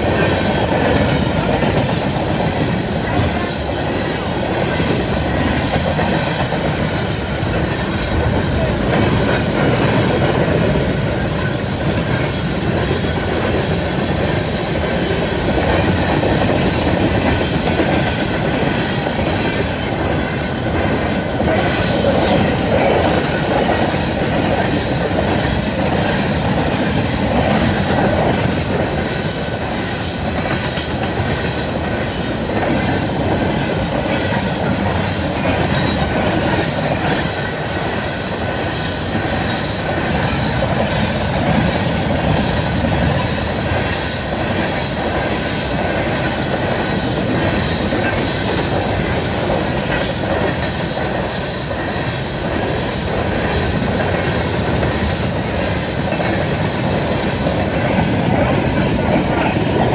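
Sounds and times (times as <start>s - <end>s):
steel wheels clattering on rails: 0.0s - 59.9s.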